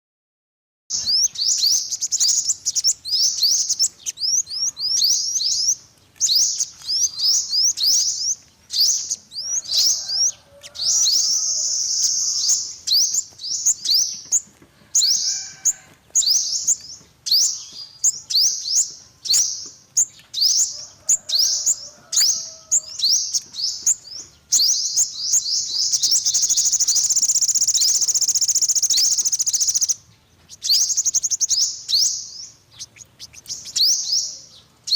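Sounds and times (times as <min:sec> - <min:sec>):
bird continuous trill: 0:00.9 - 0:34.9
sunbird singing high chirps: 0:00.9 - 0:34.9.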